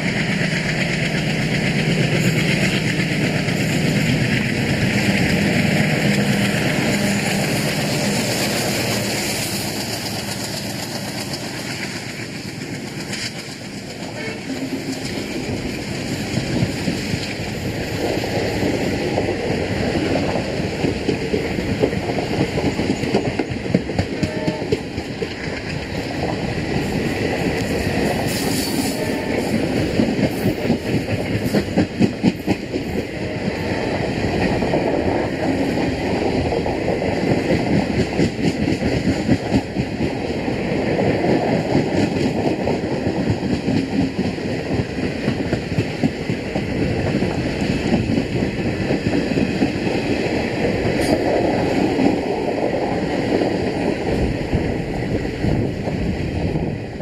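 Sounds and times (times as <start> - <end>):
train wheels clattering: 0.0 - 57.0.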